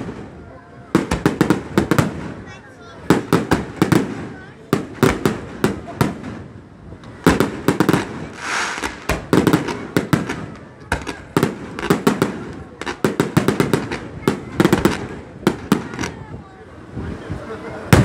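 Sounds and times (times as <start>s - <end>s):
fireworks banging: 0.0s - 18.0s
fireworks hissing rush: 0.0s - 18.0s.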